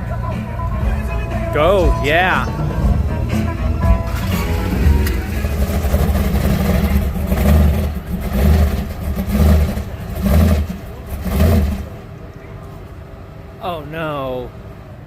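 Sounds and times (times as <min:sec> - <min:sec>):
car engine rumble pulling away: 0:00.0 - 0:12.3.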